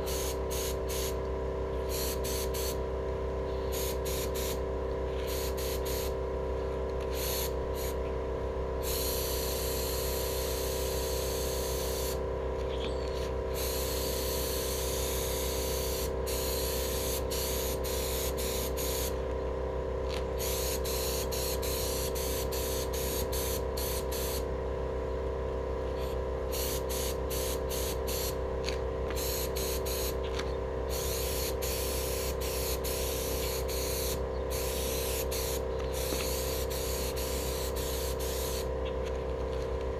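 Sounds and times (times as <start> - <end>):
paint spray gun hissing: 0.0 - 1.2, 1.8 - 2.8, 3.6 - 6.2, 7.0 - 8.0, 8.8 - 12.2, 13.2 - 19.2, 20.1 - 24.5, 26.0 - 39.1
steady hum: 0.0 - 39.9.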